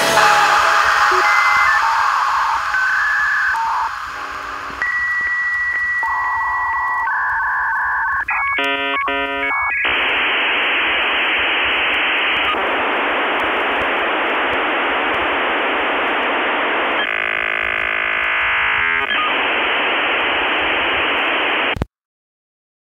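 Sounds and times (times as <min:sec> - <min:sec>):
radio static hiss: 0:00.0 - 0:21.9.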